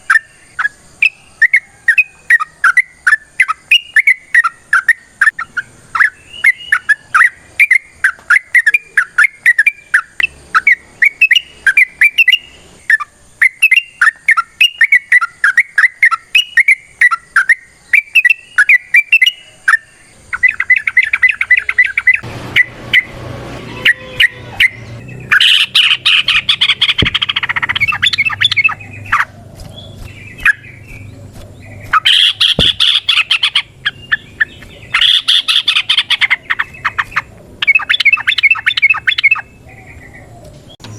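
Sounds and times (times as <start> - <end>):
bird singing bubbling chirps: 0.0 - 23.1, 23.8 - 40.9
harsh bird chattering: 0.0 - 23.1, 23.8 - 40.3.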